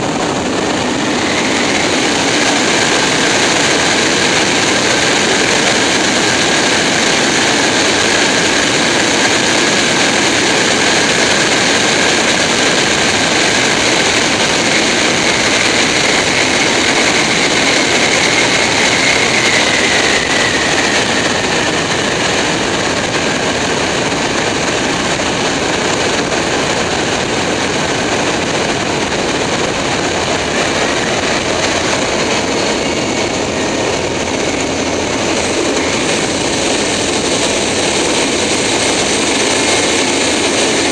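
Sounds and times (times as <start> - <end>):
jet engine noise: 0.0 - 40.9
rush of airflow: 0.0 - 40.9.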